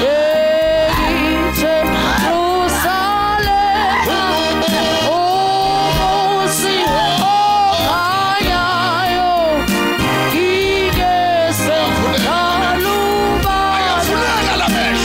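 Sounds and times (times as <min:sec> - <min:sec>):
instrumental backing with beat: 0:00.0 - 0:15.0
person singing a hymn: 0:00.0 - 0:15.0.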